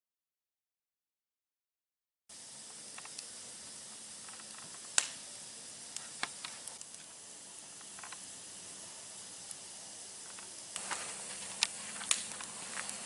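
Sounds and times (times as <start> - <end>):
campfire hissing and crackling: 2.3 - 13.0.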